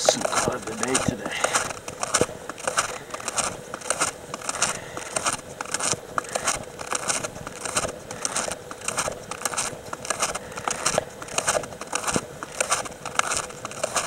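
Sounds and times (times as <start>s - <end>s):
snowshoe footsteps crunching snow: 0.0s - 14.0s.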